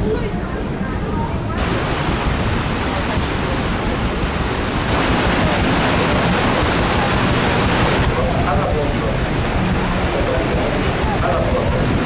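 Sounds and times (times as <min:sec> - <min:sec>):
water rushing along a hull: 0:00.0 - 0:12.0
wind on microphone: 0:00.0 - 0:12.0.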